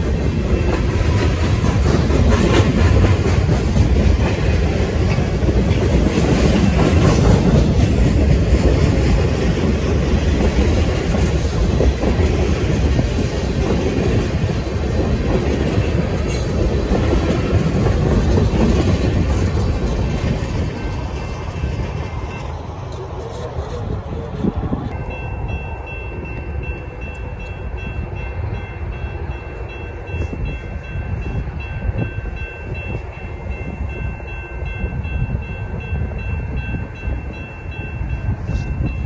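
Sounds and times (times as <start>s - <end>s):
freight train rolling past: 0.0s - 39.0s.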